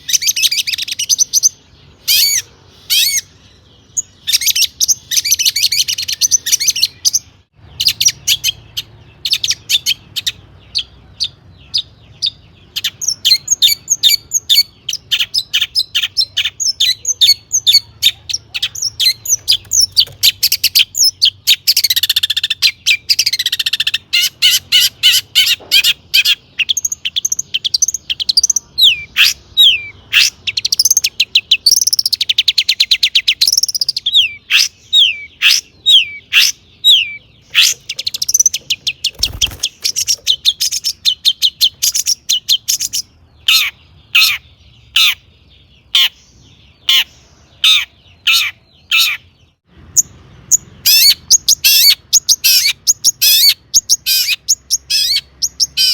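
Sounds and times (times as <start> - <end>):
shrike singing: 0.0 - 49.3.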